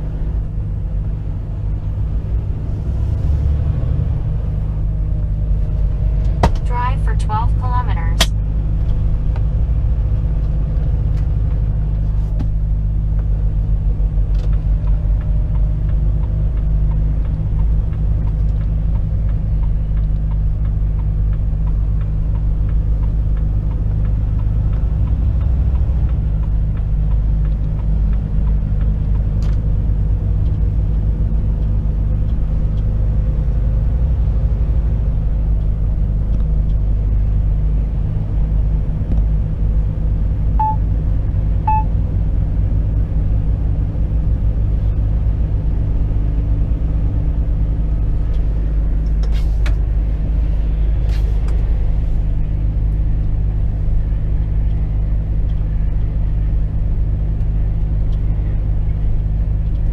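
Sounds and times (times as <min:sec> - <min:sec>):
truck cab rumble on motorway: 0:00.0 - 0:59.9.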